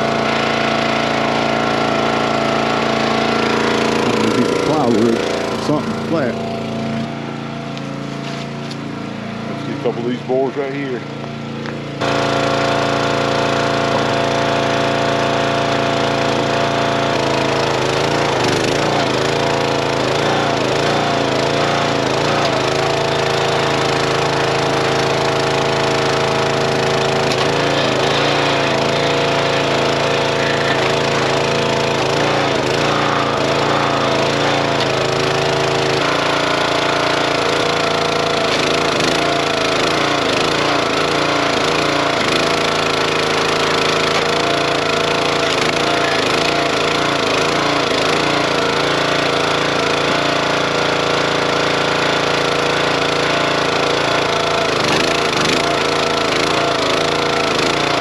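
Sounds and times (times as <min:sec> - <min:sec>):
log splitter engine running: 0:00.0 - 0:58.0.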